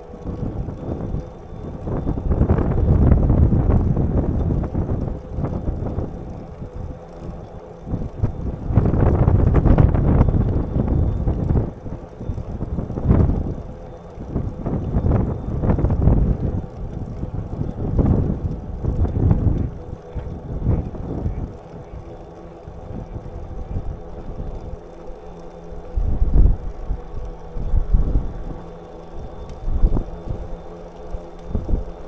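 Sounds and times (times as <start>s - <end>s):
faint steady whine: 0.0s - 32.0s
wind buffeting microphone: 0.0s - 32.0s.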